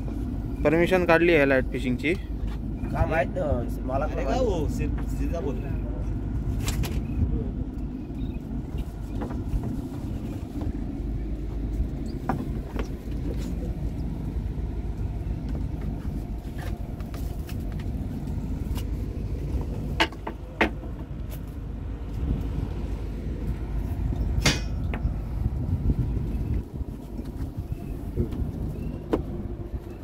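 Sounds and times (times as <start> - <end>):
generator rumbling: 0.0 - 30.0.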